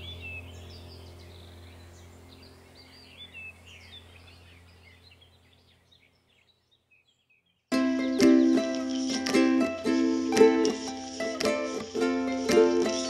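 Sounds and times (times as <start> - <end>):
steady low hum: 0.0 - 6.3, 7.8 - 13.0
small birds chirping: 0.0 - 13.0.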